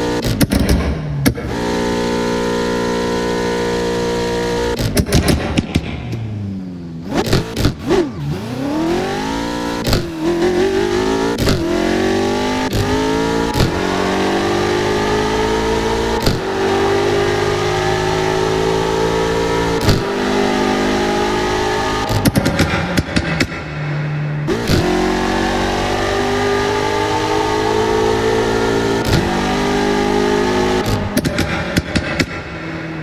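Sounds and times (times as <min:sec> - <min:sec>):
exhaust cracks: 0:00.0 - 0:06.3, 0:07.1 - 0:32.8
car engine revving: 0:00.0 - 0:33.0.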